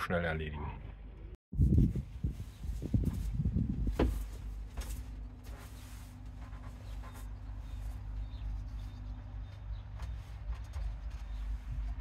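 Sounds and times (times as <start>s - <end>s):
low steady rumble: 0.9s - 12.0s
faint birds chirping: 2.3s - 12.0s.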